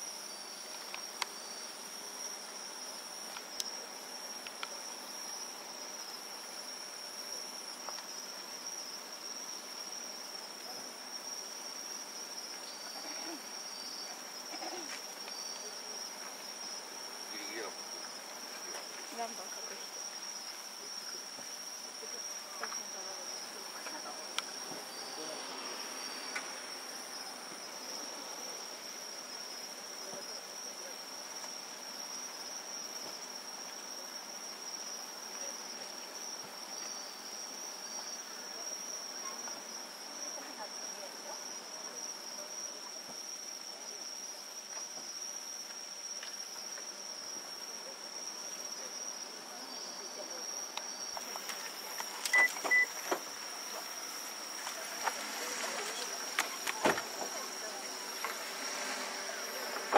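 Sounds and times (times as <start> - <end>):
crickets chirring: 0.0 - 59.9
night insects chorus: 0.0 - 59.9.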